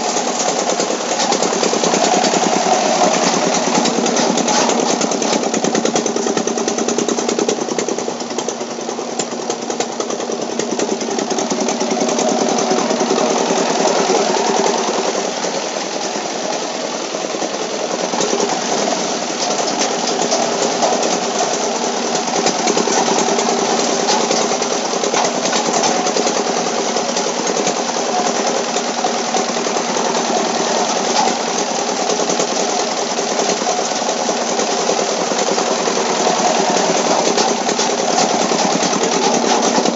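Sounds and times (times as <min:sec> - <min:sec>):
motor hum: 0:00.0 - 0:39.9
washing machine rattling: 0:00.0 - 0:39.9.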